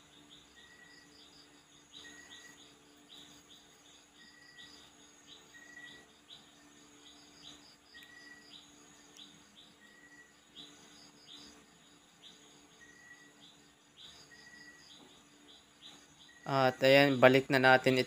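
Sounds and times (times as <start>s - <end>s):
faint high chirps: 0.0s - 18.0s.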